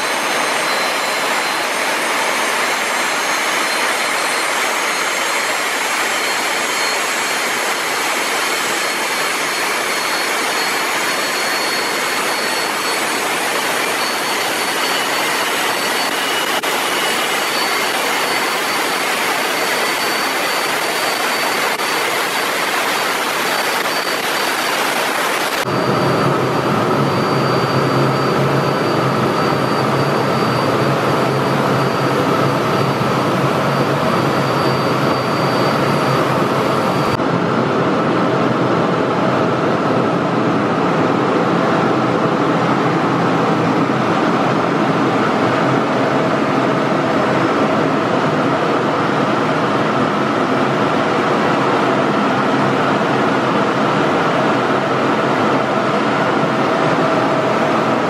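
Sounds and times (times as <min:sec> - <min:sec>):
gas turbine roaring: 0:00.0 - 0:58.0
high-pitched compressor whine: 0:00.0 - 0:58.0.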